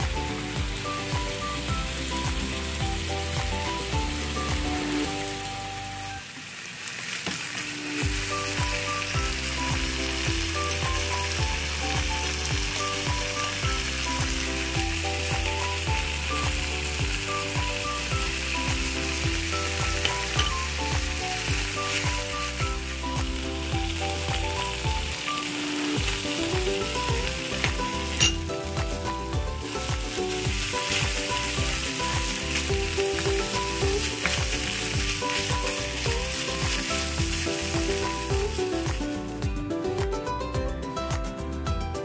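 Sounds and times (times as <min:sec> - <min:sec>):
background music with bass beat: 0:00.0 - 0:05.4, 0:08.0 - 0:25.2, 0:25.9 - 0:42.0
meat sizzling in a frying pan: 0:00.0 - 0:39.5.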